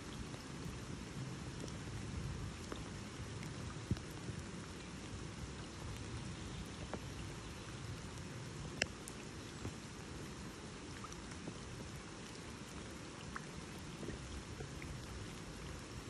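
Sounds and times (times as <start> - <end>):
rain falling on water: 0.0 - 16.0.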